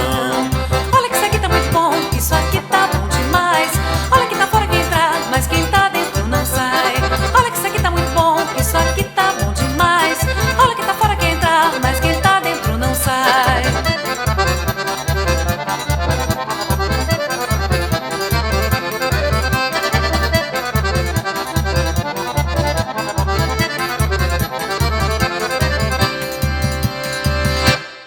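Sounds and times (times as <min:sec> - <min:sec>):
accordion: 0:00.0 - 0:28.0.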